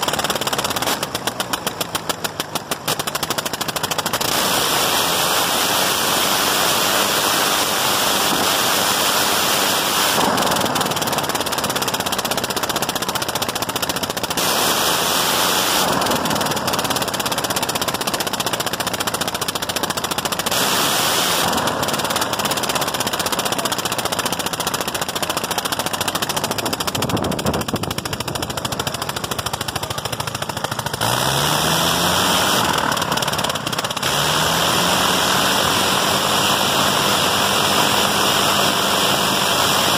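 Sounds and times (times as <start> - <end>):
rotary aircraft engine running: 0.0 - 39.9.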